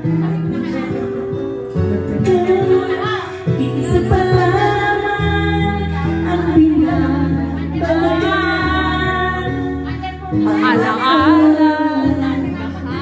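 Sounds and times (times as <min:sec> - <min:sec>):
backing track with bass notes: 0:00.0 - 0:13.0
woman singing karaoke: 0:00.0 - 0:13.0.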